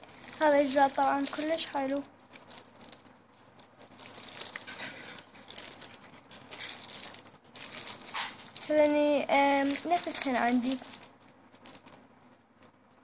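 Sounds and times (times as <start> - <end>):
notebook covers rustling: 0.0 - 13.0
plastic bag crinkling: 0.0 - 13.0.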